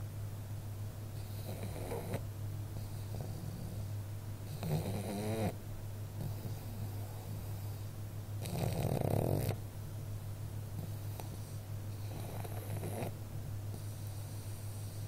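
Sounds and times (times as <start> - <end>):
dog snoring: 1.2 - 2.2, 2.8 - 9.6, 10.8 - 15.0.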